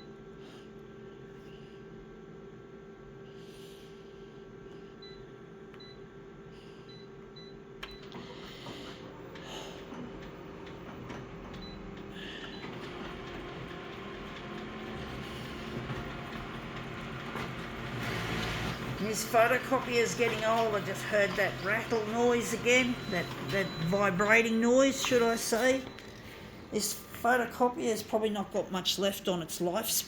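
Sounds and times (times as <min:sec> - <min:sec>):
photocopier humming: 0:03.2 - 0:30.0.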